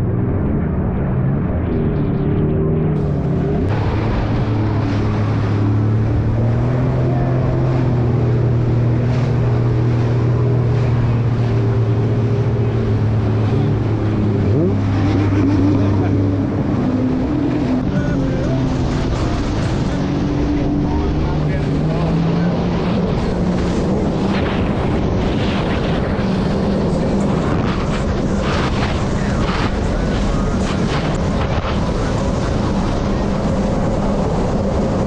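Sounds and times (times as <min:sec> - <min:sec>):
jet ski engine running: 0:00.0 - 0:35.0
second engine revving up: 0:00.0 - 0:35.0
wind on microphone: 0:00.0 - 0:35.0.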